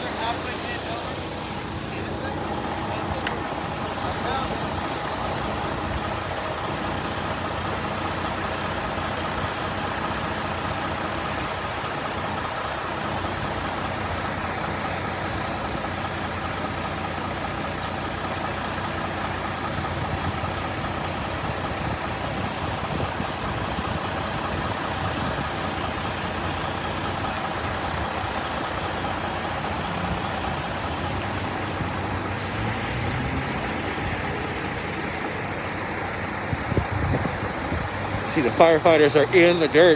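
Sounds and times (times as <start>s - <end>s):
vehicle engine idling: 0.0s - 39.9s
water gushing from hydrant: 0.0s - 39.9s.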